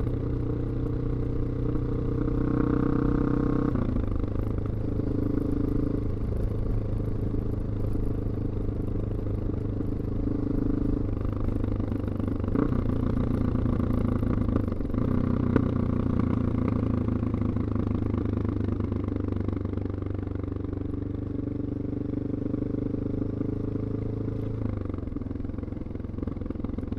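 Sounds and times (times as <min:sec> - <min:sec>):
motorcycle engine riding: 0:00.0 - 0:26.9.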